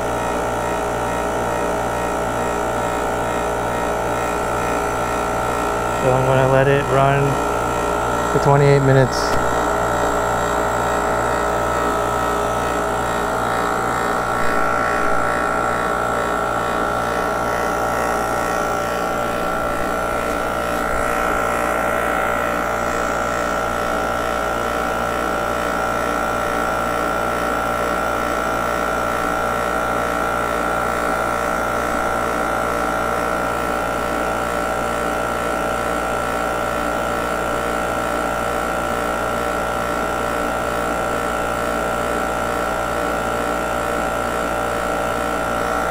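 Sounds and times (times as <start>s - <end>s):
compressor machine humming: 0.0s - 45.9s.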